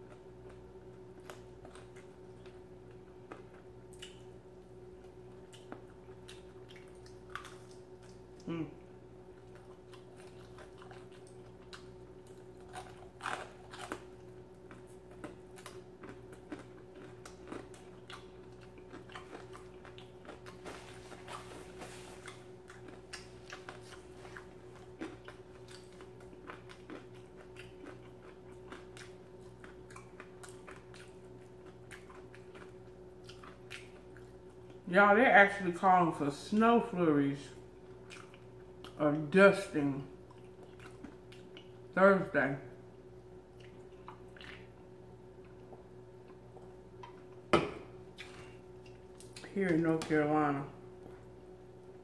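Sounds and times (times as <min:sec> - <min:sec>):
chewing and crunching chicken wings: 0:00.0 - 0:34.9, 0:37.2 - 0:41.9, 0:43.3 - 0:47.5, 0:48.1 - 0:52.0
faint steady hum: 0:00.0 - 0:52.0.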